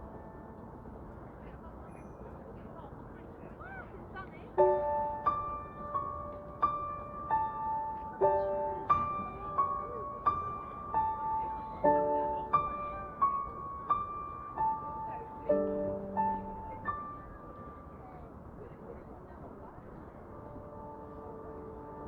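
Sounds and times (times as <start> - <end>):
gentle piano melody: 0.0 - 2.2, 4.5 - 22.0.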